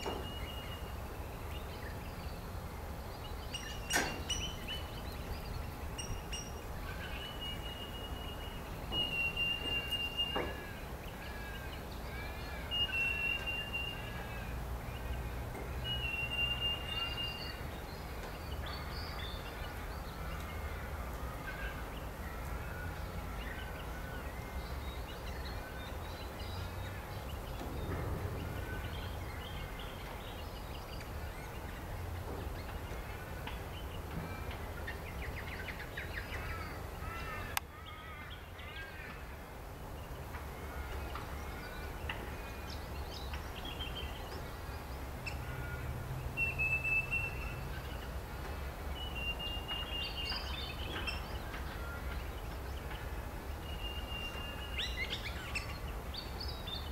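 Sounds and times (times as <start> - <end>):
birds chirping and calling: 0.0 - 56.9.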